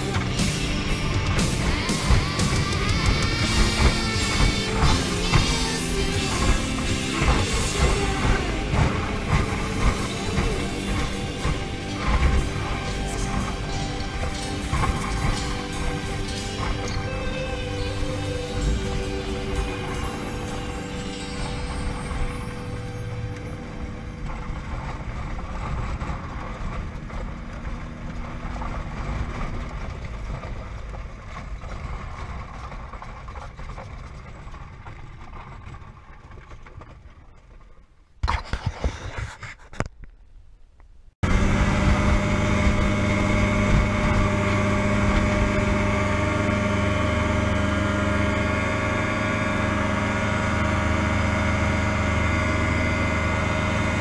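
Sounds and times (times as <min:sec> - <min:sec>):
ultralight engine and propeller: 0:00.0 - 0:40.1, 0:41.2 - 0:54.0.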